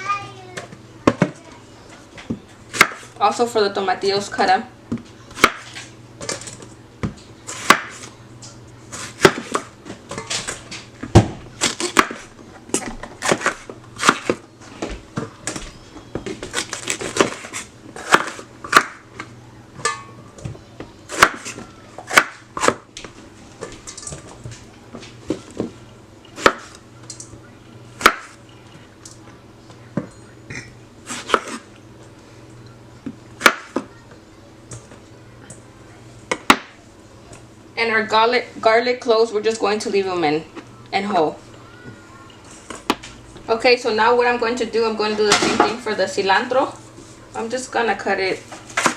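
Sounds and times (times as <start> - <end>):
low steady hum: 0.0 - 48.9.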